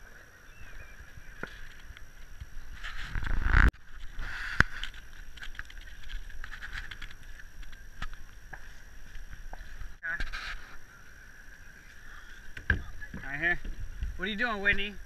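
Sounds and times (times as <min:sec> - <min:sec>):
steady outdoor noise: 0:00.0 - 0:15.0.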